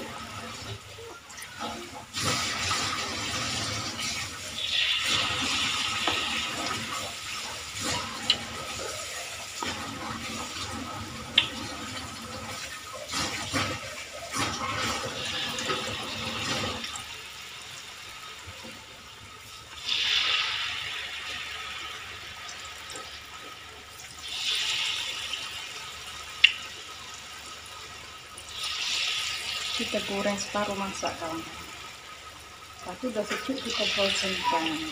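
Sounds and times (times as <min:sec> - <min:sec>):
food deep-frying in oil: 0:00.0 - 0:34.9.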